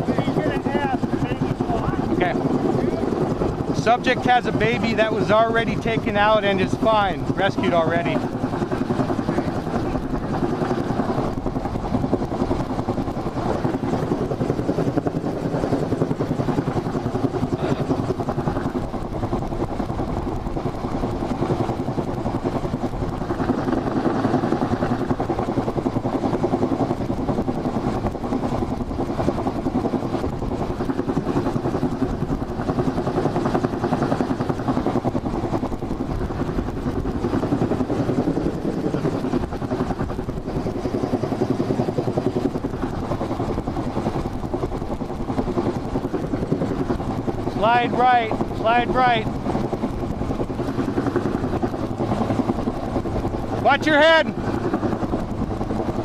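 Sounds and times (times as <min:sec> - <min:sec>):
helicopter hovering overhead: 0:00.0 - 0:56.0.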